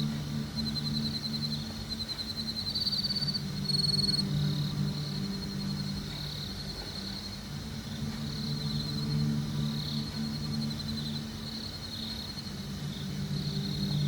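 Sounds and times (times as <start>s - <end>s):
insects chirping in trills: 0.0s - 14.0s
low steady hum: 0.0s - 14.0s.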